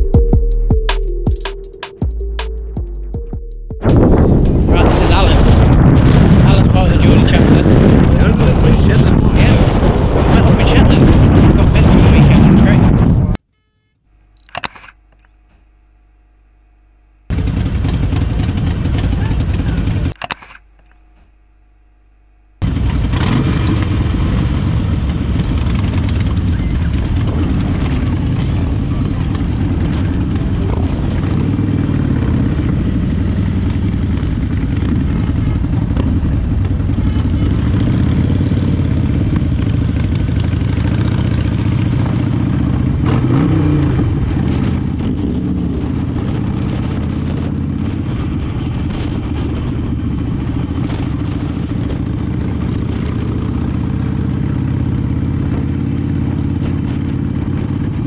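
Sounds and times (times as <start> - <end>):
motorcycle engine running: 0.0 - 13.3, 14.4 - 58.0
other motorcycles riding: 3.8 - 13.4, 14.4 - 58.0.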